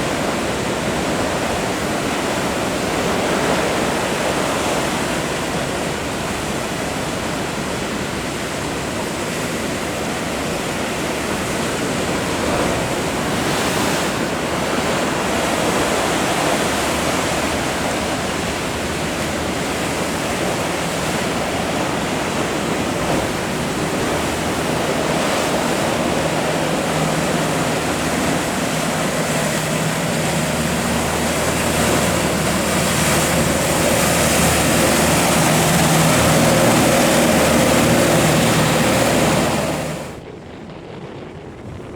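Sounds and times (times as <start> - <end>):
engine humming: 0.0 - 40.3
ocean waves breaking: 0.0 - 40.3.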